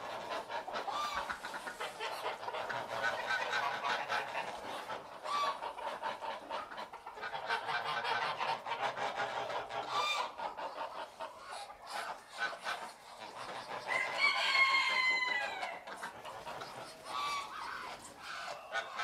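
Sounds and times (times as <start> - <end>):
geese cackling: 0.0 - 19.0
goose honking: 0.0 - 19.0.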